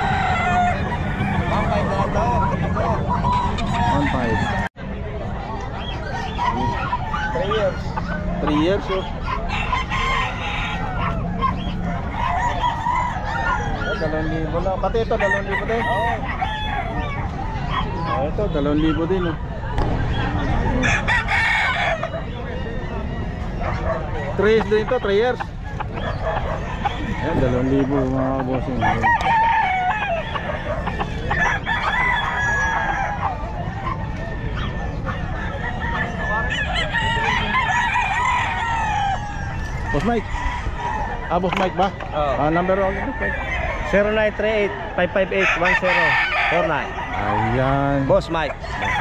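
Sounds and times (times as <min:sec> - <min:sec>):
roosters crowing and clucking: 0:00.0 - 0:49.0.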